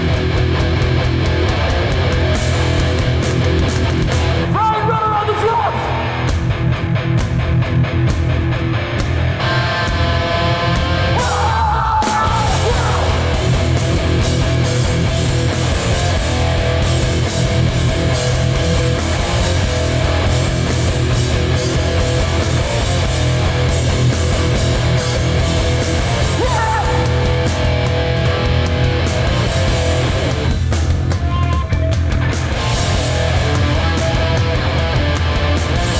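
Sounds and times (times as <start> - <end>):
hardcore band playing live: 0.0 - 35.9.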